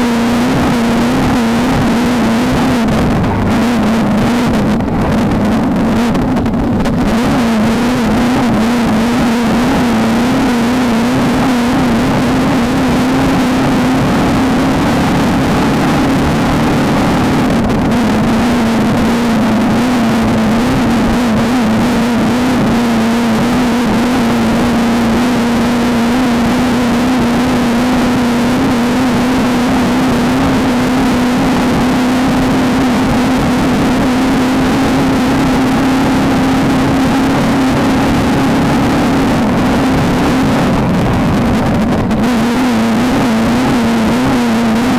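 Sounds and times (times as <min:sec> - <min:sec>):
car running over rough terrain: 0:00.0 - 0:44.9
race car engine at high revs: 0:00.0 - 0:44.9.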